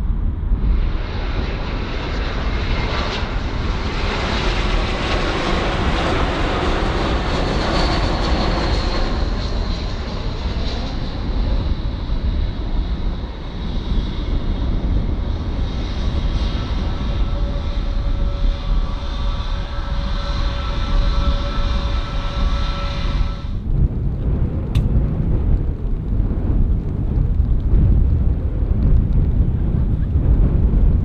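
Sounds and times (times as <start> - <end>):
airliner engines roaring: 0.0 - 27.0.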